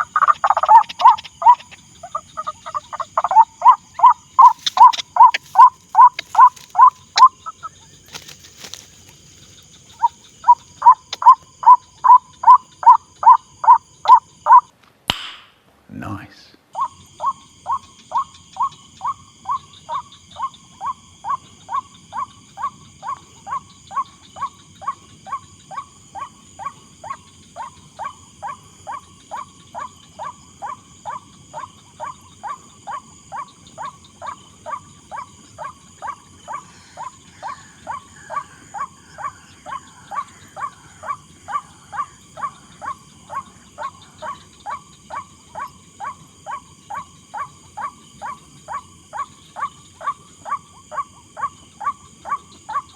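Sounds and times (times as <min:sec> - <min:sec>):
waterhen calling: 0:00.0 - 0:09.1, 0:09.8 - 0:14.7, 0:16.8 - 0:52.9.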